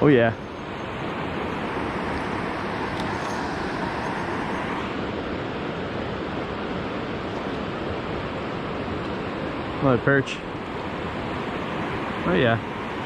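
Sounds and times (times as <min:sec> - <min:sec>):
water rushing from spillway: 0:00.0 - 0:13.0.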